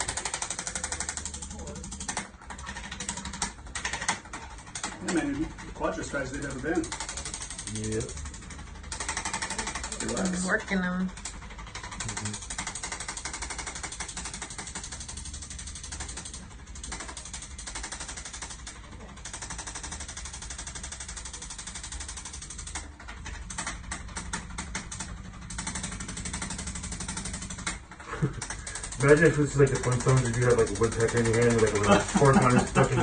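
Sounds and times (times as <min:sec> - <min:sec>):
percussion massager rattling: 0:00.0 - 0:33.0.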